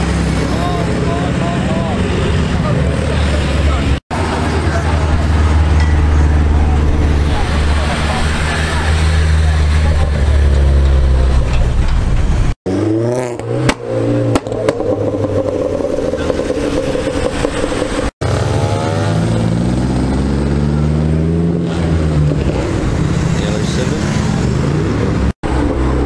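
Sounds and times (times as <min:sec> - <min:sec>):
cars revving and accelerating: 0:00.0 - 0:26.0.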